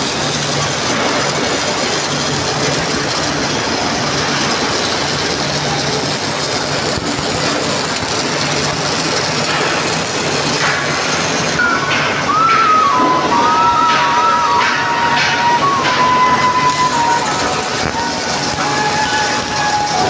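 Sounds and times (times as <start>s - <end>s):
welding equipment hissing: 0.0s - 20.0s.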